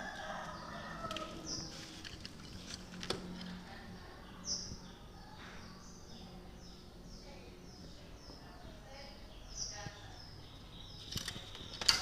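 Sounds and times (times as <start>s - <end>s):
birds chirping: 0.0s - 12.0s
faint low hum: 0.0s - 12.0s.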